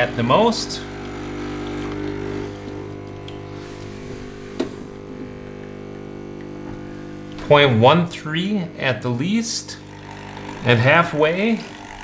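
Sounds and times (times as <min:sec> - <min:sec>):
pump humming: 0:00.0 - 0:12.0.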